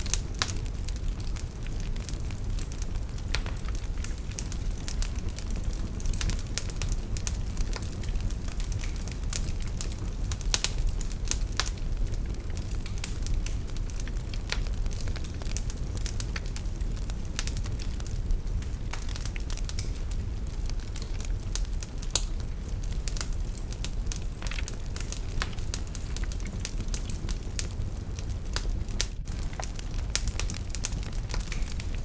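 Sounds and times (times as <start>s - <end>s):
low rumble of burning fire: 0.0s - 32.0s
wood fire crackling and popping: 0.0s - 32.0s.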